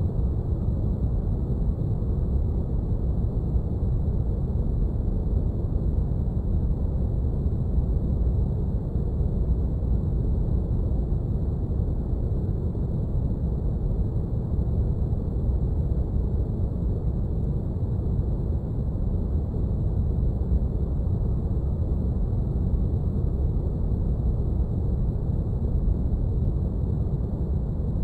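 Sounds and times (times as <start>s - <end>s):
deep brown-noise hum: 0.0s - 28.0s.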